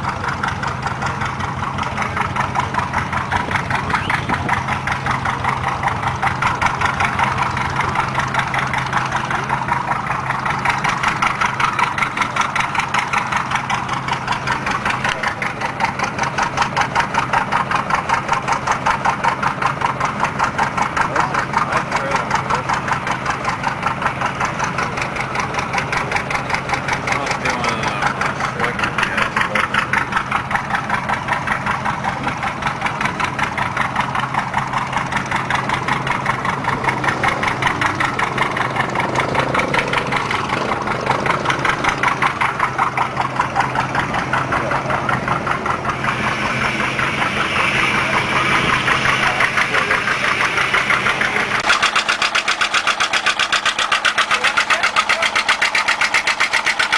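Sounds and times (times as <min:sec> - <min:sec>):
tractor engine idling: 0:00.0 - 0:56.9.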